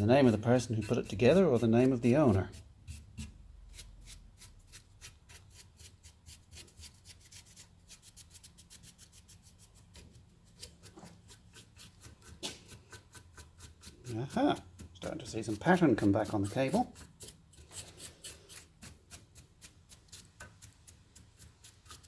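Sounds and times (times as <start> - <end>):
faint rubbing strokes on cable: 0.0 - 22.0.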